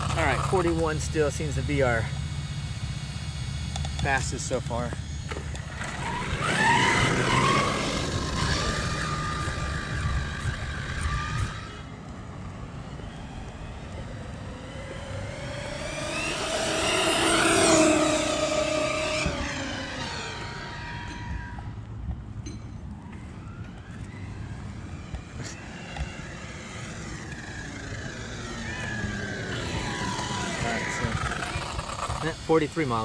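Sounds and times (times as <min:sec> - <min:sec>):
electric motor whine: 0:00.0 - 0:33.0.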